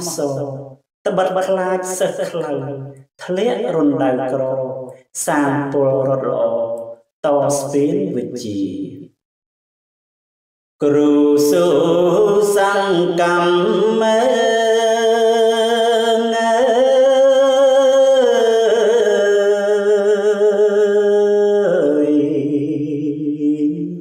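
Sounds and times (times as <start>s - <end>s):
man chanting: 0.0s - 9.2s, 10.8s - 24.0s.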